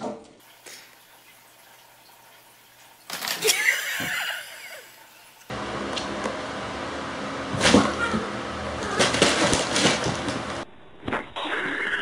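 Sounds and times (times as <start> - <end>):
steady background hum: 1.0 - 11.1.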